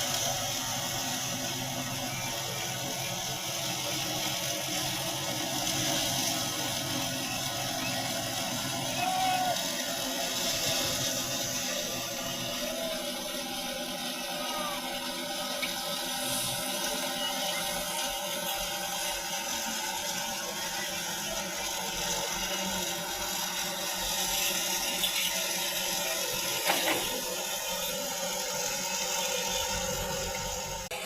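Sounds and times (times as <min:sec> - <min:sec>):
thresher clatter and whir: 0:00.0 - 0:31.0.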